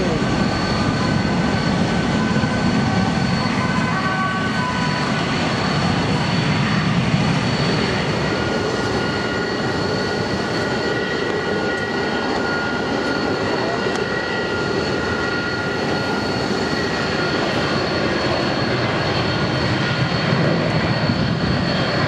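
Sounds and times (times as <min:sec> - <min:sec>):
high whining engine tones: 0:00.0 - 0:22.0
jet engine rumble: 0:00.0 - 0:22.0.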